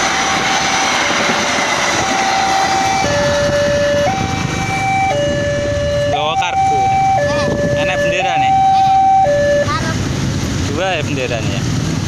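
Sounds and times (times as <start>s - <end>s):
two-tone crossing alarm: 0.0s - 9.7s
low train and traffic rumble: 0.0s - 12.0s.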